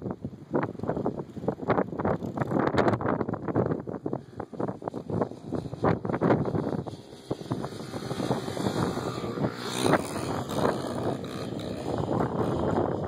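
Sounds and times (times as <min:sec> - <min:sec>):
dirt bike engines running: 0:00.7 - 0:13.0.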